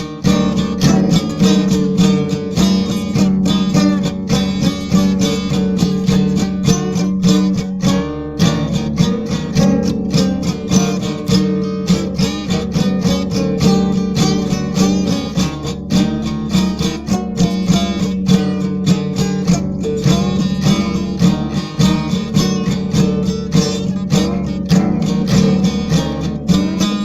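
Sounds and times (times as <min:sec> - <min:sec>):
strummed acoustic guitar country music: 0:00.0 - 0:27.0.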